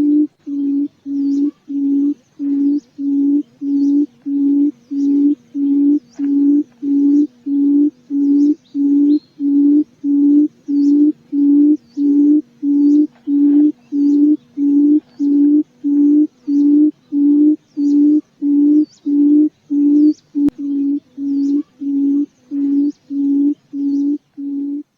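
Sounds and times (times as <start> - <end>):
quail hooting call: 0.0 - 24.9.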